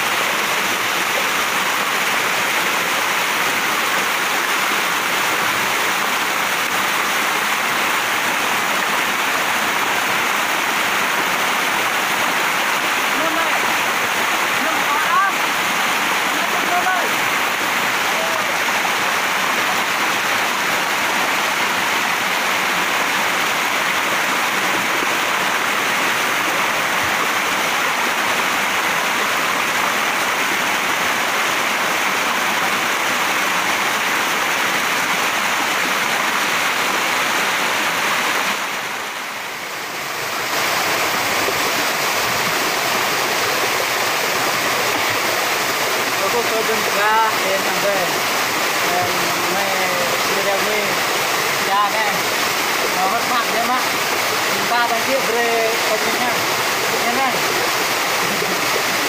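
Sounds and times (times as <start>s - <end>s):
waterfall pouring over rocks: 0.0s - 59.0s.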